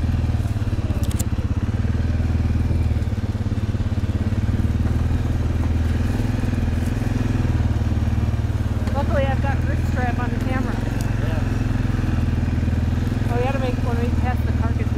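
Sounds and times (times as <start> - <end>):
atv engine running: 0.0 - 14.9.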